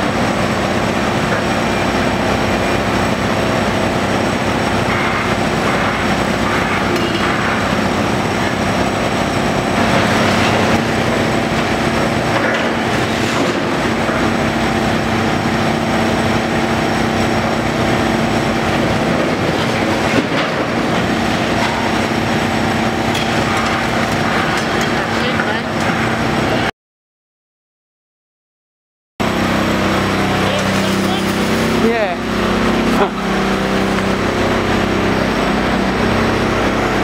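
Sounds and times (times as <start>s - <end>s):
excavator engine droning: 0.0s - 26.7s, 29.2s - 37.0s
hydraulic hum: 0.0s - 26.7s, 29.2s - 37.0s.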